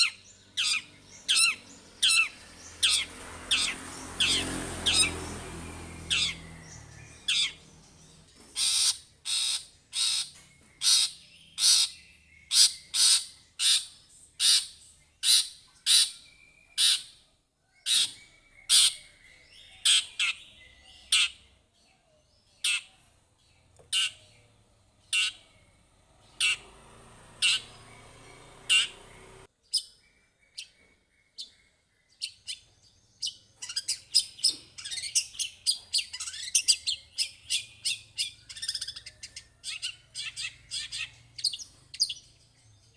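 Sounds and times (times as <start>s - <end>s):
bird harsh scratchy calls: 0.0s - 19.2s, 19.8s - 21.5s, 22.6s - 23.1s, 23.9s - 24.3s, 25.0s - 29.5s, 33.6s - 42.3s.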